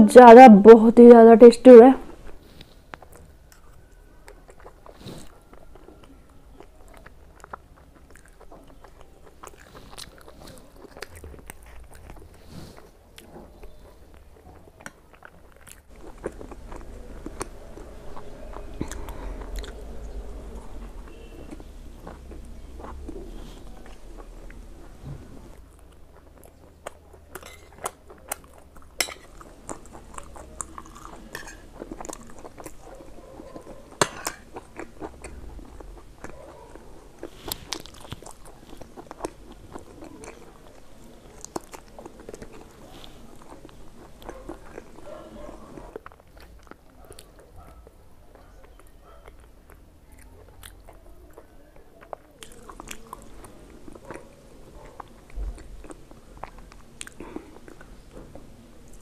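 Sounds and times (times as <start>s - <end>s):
person chewing food: 2.1s - 59.0s.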